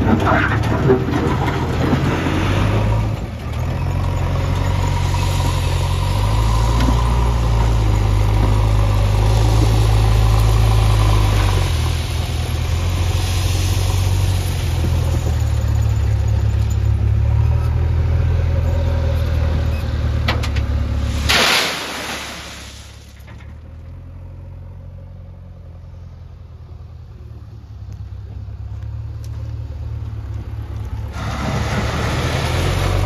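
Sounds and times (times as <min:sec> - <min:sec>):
heavy diesel engine running: 0:00.0 - 0:21.3, 0:26.7 - 0:33.0.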